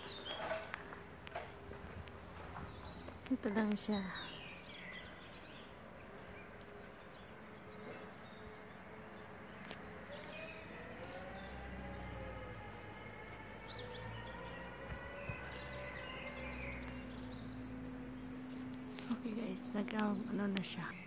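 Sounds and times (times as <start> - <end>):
low drone with rising tones: 0.0 - 21.0
small songbird singing: 0.0 - 21.0.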